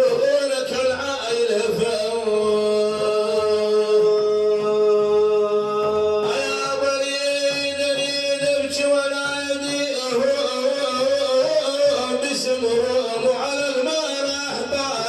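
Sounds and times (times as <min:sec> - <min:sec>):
man chanting a devotional song: 0:00.0 - 0:15.0.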